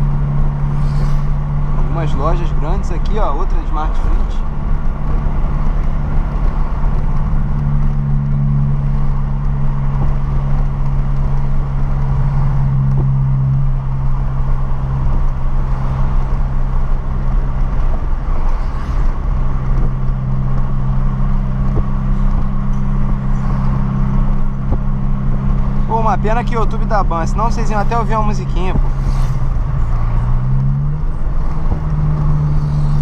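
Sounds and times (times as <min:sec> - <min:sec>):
car engine cruising drone: 0:00.0 - 0:33.0.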